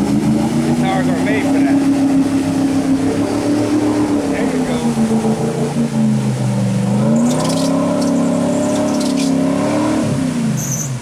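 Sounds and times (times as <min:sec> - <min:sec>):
truck engine revving: 0:00.0 - 0:11.0
water and mud splashing: 0:00.0 - 0:11.0.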